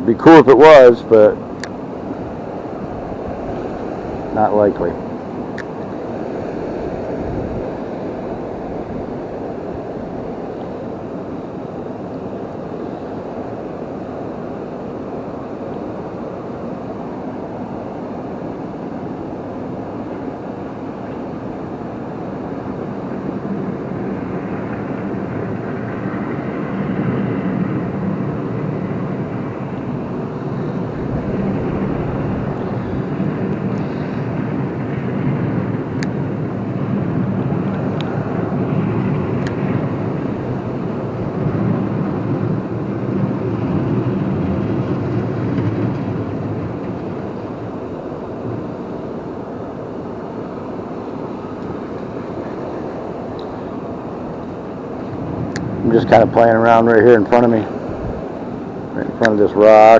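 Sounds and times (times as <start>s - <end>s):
deep drone: 0.0s - 59.9s
waterfall roaring: 0.0s - 59.9s.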